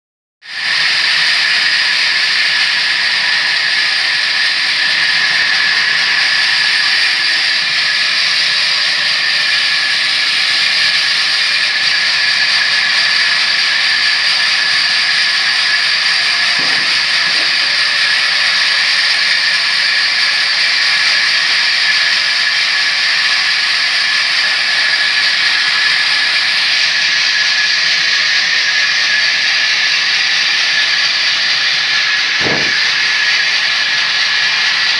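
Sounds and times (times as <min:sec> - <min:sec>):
band saw cutting a log: 0:00.5 - 0:34.9.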